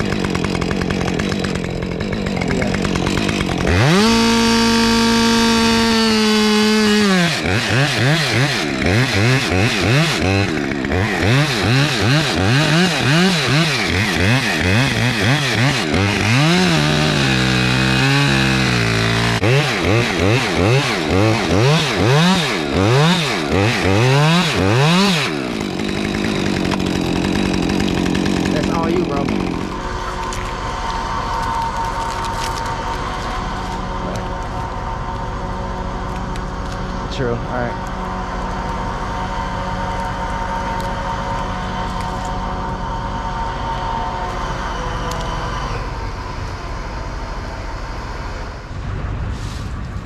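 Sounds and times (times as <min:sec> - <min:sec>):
chainsaw revving and idling: 0:00.0 - 0:48.6.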